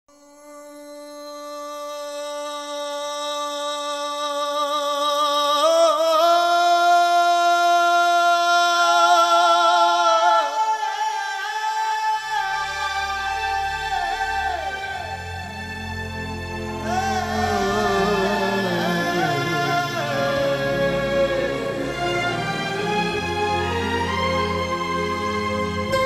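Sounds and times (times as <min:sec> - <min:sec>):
wordless voice singing with vibrato: 0:00.1 - 0:26.0.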